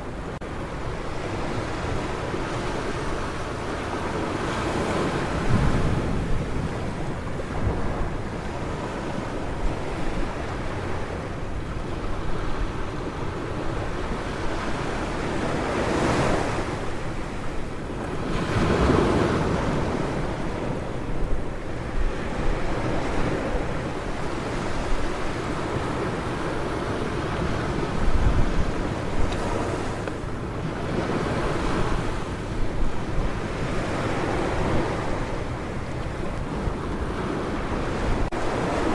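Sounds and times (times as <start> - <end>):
ocean surf breaking: 0.0 - 38.9
wind buffeting microphone: 0.0 - 38.9.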